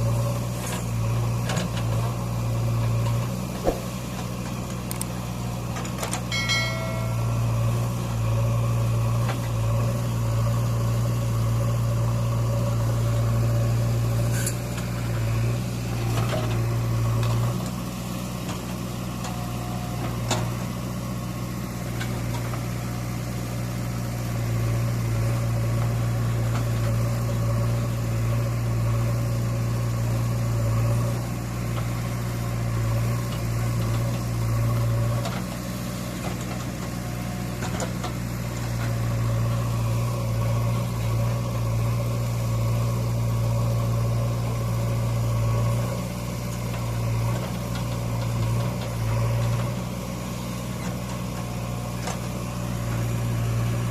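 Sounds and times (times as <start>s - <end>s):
backhoe diesel engine droning: 0.0s - 53.9s.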